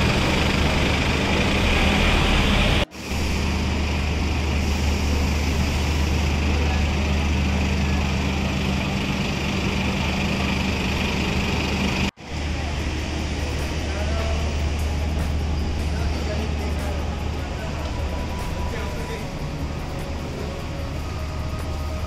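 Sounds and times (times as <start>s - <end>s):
low engine hum: 0.0s - 22.0s
traffic noise: 0.0s - 22.0s.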